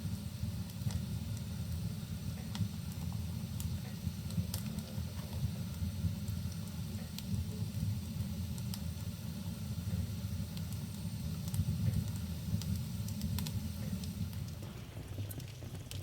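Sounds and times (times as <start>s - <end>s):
low rumble of flames: 0.0s - 16.0s
logs crackling and popping: 0.1s - 9.2s, 9.8s - 16.0s.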